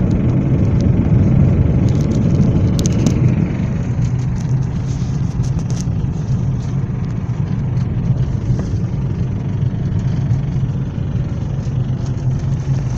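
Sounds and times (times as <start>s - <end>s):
car engine running: 0.0s - 12.9s
engine knock: 0.0s - 12.9s.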